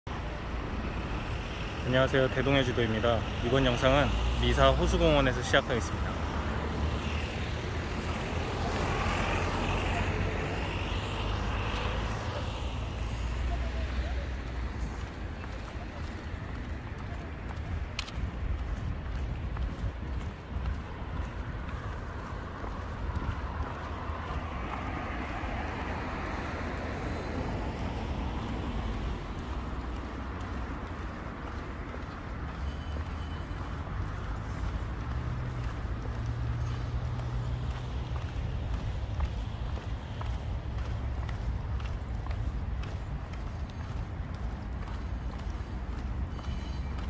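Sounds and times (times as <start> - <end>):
street traffic rumble: 0.0 - 47.0
vehicle passing: 0.2 - 47.0.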